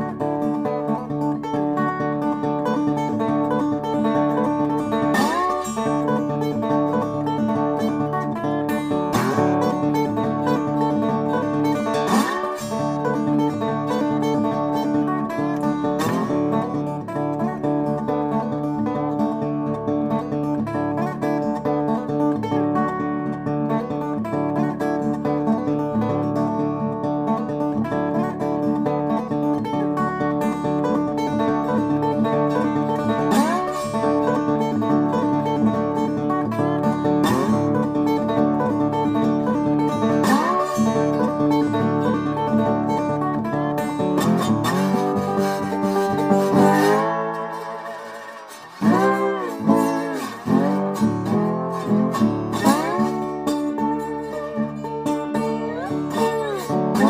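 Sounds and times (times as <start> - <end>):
country music on acoustic guitar: 0.0 - 57.0.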